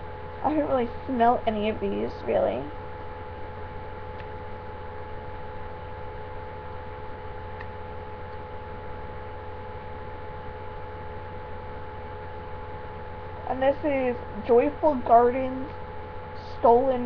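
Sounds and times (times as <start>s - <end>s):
constant hiss: 0.0s - 17.0s
electrical hum with held tones: 0.0s - 17.0s.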